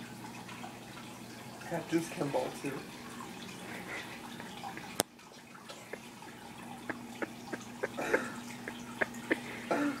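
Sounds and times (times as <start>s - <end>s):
water dripping and splashing: 0.0s - 10.0s.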